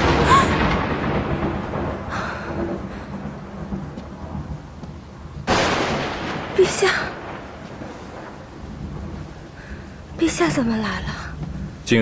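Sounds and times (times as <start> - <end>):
steady rain: 0.0 - 12.0
thunder rumbling: 0.0 - 12.0.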